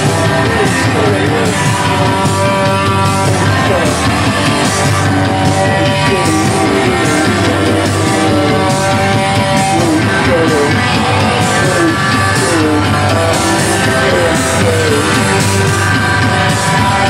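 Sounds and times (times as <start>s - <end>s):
loud rock music with guitar: 0.0s - 17.0s.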